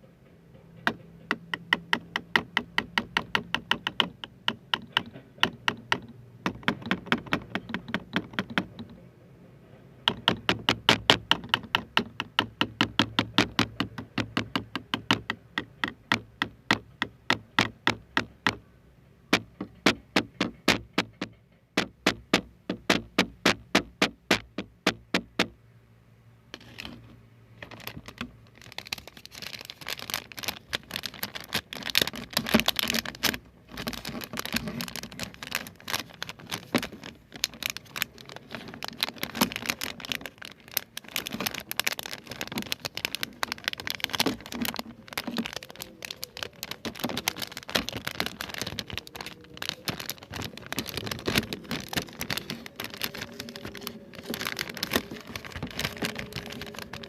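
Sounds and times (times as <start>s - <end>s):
crinkling and crackling: 0.0s - 18.7s, 19.3s - 25.5s, 26.5s - 57.0s.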